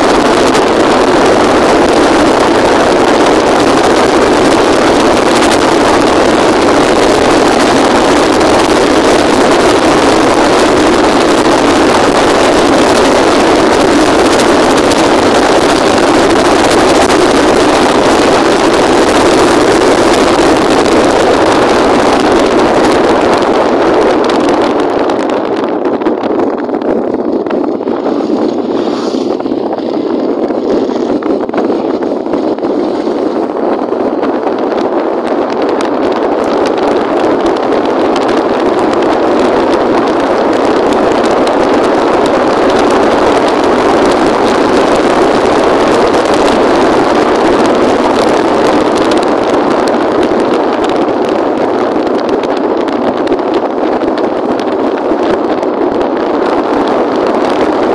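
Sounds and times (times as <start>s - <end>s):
wind and road noise: 0.0s - 57.9s.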